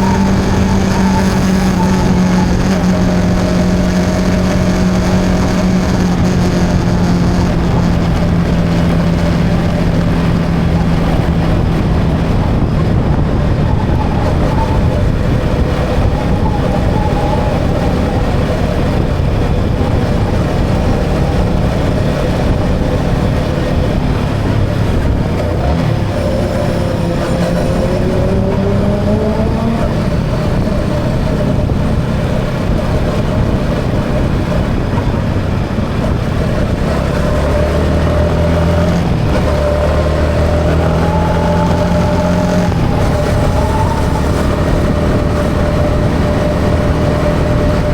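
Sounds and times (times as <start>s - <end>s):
motorcycle engine running: 0.0s - 47.9s
road and wind noise: 0.0s - 47.9s.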